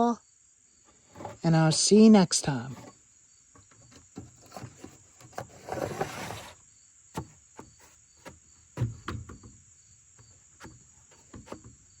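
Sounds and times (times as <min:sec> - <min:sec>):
crickets chirping: 0:00.0 - 0:12.0
rustle: 0:00.3 - 0:12.0.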